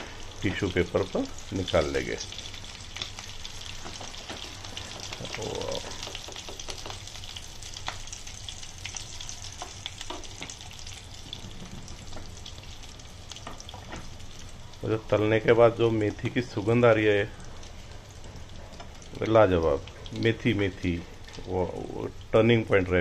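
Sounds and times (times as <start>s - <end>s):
cutlets sizzling in hot oil: 0.0s - 23.0s.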